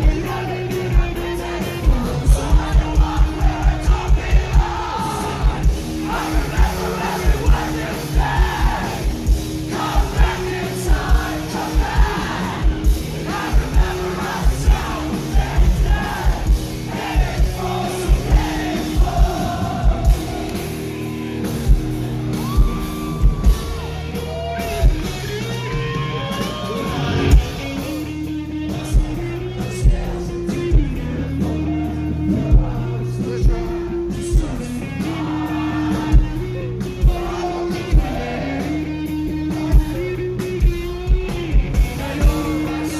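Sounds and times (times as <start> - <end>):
lead vocal singing: 0.0 - 21.8, 25.8 - 40.3, 41.5 - 42.9
drums keeping a steady beat: 0.0 - 42.9
guitars: 0.0 - 42.9
live rock band playing: 0.0 - 42.9.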